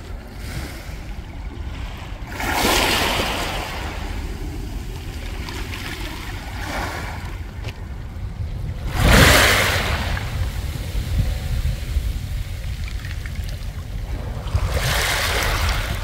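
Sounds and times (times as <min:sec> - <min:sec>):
wind rumbling on microphone: 0:00.0 - 0:16.0
waves washing over pebbles: 0:02.1 - 0:07.8, 0:08.6 - 0:16.0.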